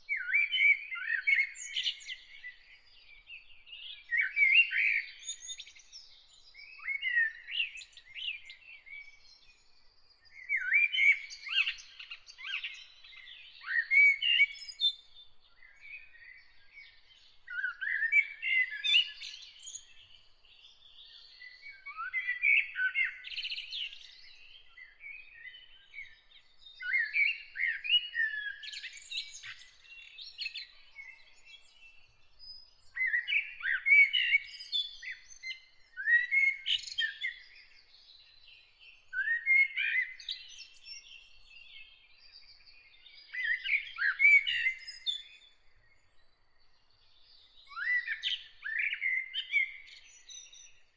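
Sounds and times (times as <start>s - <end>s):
songbird singing: 0.0s - 50.9s.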